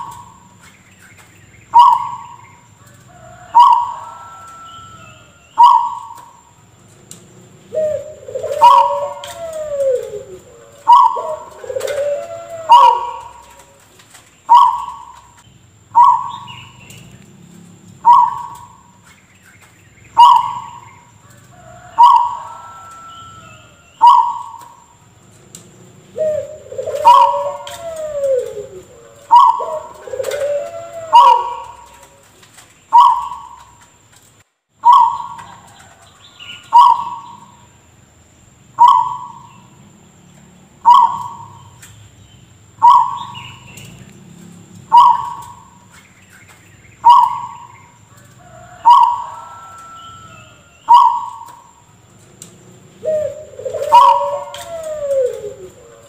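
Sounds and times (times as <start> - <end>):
dove cooing: 0.0 - 19.1, 20.1 - 34.0, 34.8 - 37.7, 38.7 - 40.0, 40.7 - 41.9, 42.7 - 46.0, 47.0 - 56.0.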